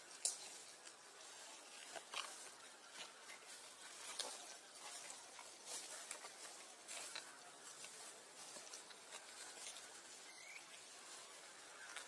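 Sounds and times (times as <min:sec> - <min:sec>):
faint steady hiss: 0:00.0 - 0:12.0
rustling of dry leaf litter: 0:00.0 - 0:12.0.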